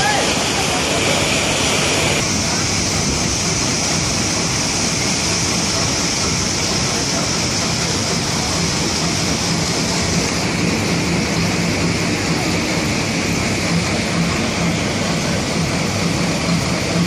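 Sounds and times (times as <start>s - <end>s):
stone-cutting machinery running: 0.0s - 17.0s.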